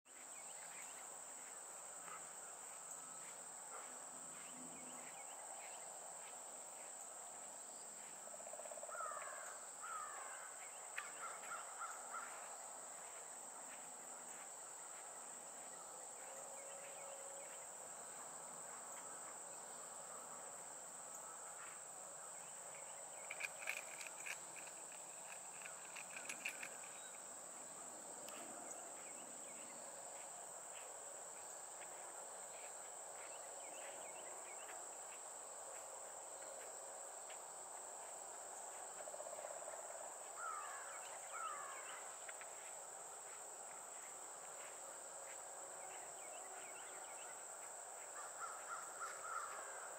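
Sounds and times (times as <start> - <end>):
high-pitched insect chorus: 0.1 - 49.9.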